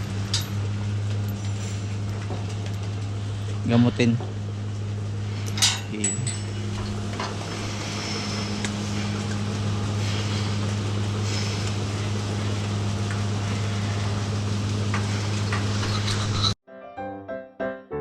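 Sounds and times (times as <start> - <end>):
machinery electric hum: 0.0 - 16.6.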